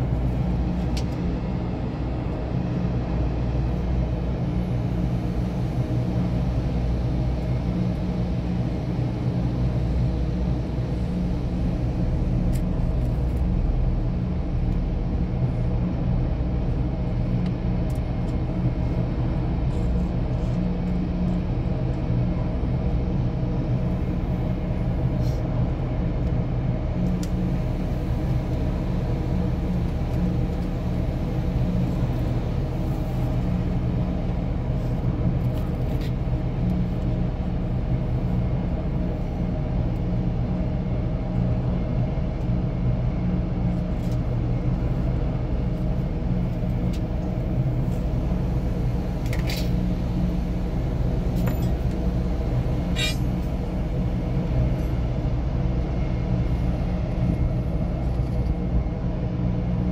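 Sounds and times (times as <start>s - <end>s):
engine droning steadily: 0.0s - 59.9s.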